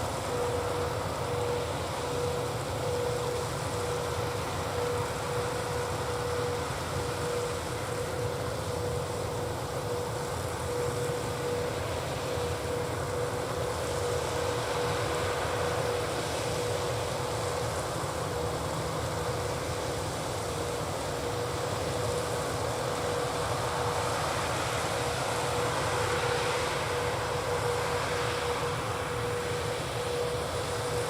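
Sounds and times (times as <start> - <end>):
constant machine whine: 0.0 - 31.0.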